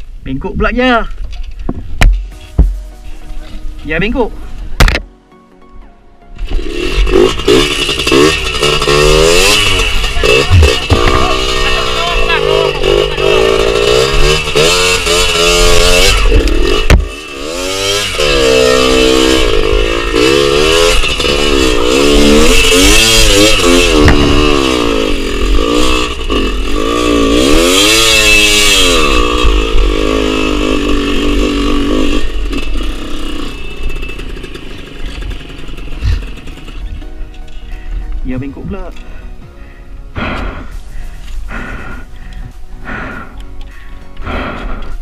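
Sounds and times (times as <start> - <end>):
motorbike engine revving: 6.3 - 39.2, 40.1 - 43.5, 44.2 - 45.0.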